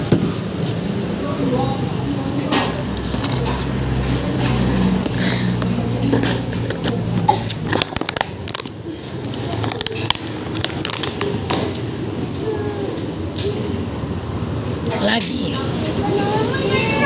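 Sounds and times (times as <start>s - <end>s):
faint background voices: 1.1s - 14.0s, 14.6s - 17.0s.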